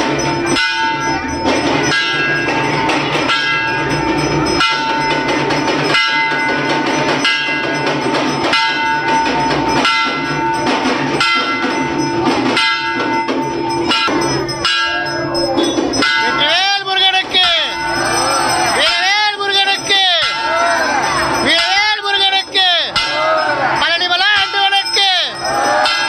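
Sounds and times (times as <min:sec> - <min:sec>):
hard struck beat: 0:00.0 - 0:26.0
temple bells ringing: 0:00.0 - 0:26.0.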